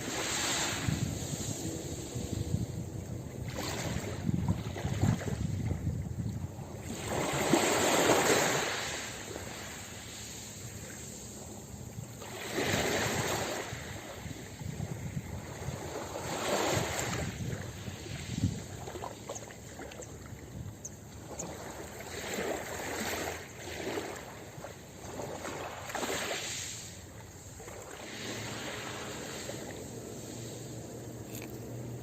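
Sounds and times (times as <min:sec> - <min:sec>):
sea waves washing onto beach: 0:00.0 - 0:20.7, 0:21.3 - 0:32.0.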